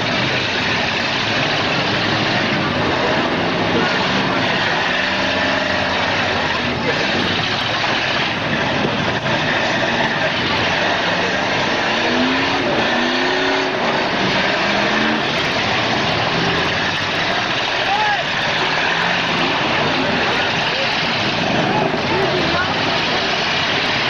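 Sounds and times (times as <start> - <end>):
car engines revving together: 0.0 - 24.0.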